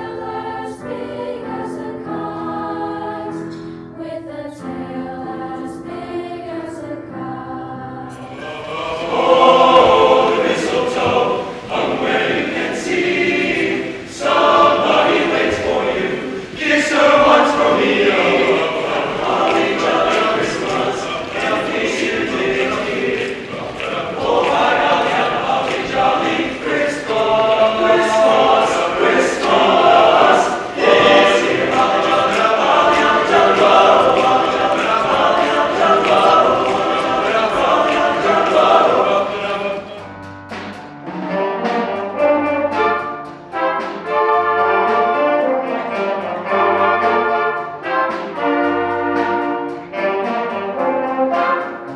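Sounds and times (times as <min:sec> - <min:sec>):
choir singing: 0:00.0 - 0:40.3, 0:41.3 - 0:51.9
school band with brass: 0:00.0 - 0:51.9.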